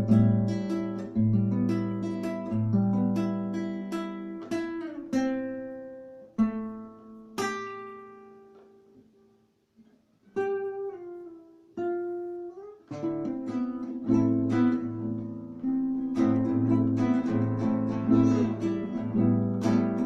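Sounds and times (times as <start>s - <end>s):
solo acoustic guitar: 0.0s - 20.0s.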